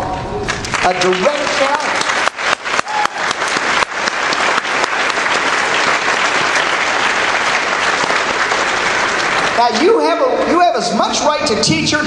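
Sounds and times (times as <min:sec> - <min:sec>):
audience applauding: 0:00.4 - 0:10.4.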